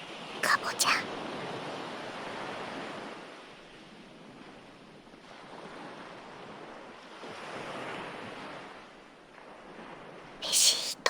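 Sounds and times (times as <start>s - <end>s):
ocean waves washing ashore: 1.0s - 11.0s.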